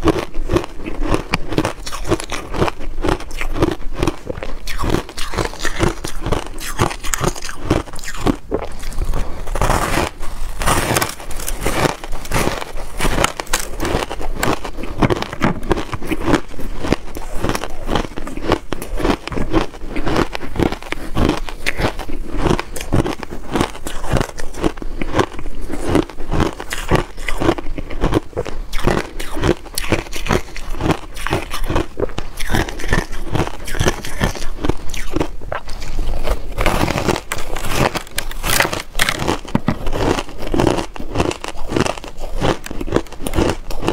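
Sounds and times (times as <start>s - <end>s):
ice being chewed: 0.0s - 43.9s.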